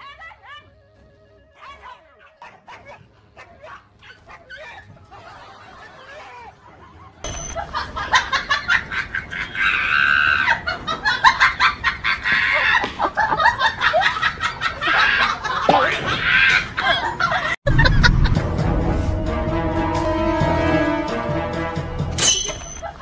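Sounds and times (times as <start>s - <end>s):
people laughing: 0.0s - 18.6s, 22.8s - 23.0s.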